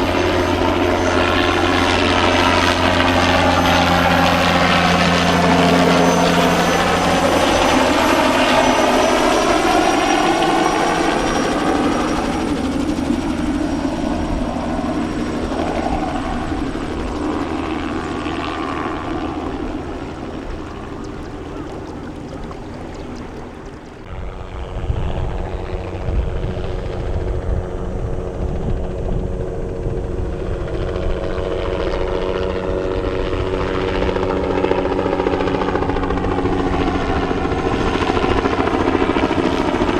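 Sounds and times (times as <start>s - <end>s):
helicopter flying past: 0.0s - 39.9s.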